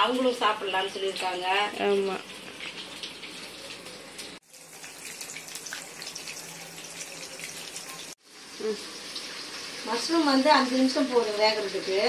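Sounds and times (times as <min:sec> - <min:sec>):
deep-frying sizzle and crackles: 0:00.0 - 0:12.0.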